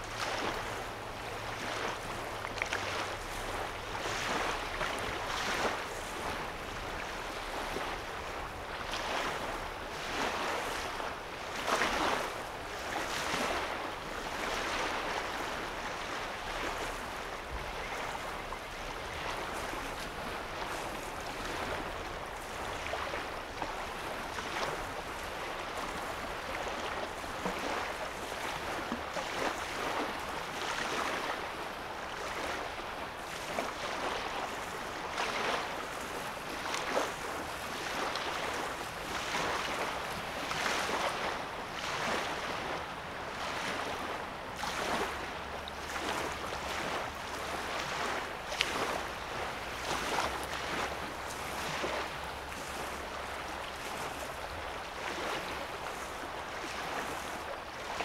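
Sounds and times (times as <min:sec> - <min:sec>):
small waves lapping on shore: 0:00.0 - 0:58.0.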